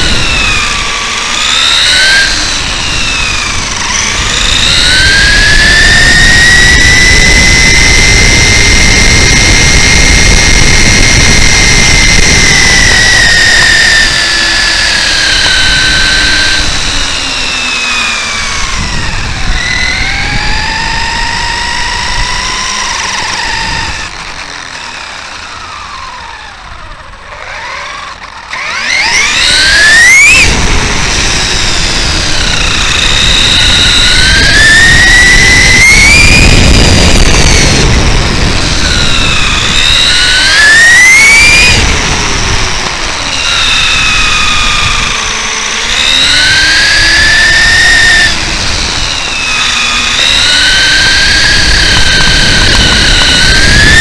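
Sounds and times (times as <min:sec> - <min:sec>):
electric motor and gears whining: 0:00.0 - 0:54.0
tyres rumbling on asphalt: 0:00.0 - 0:54.0.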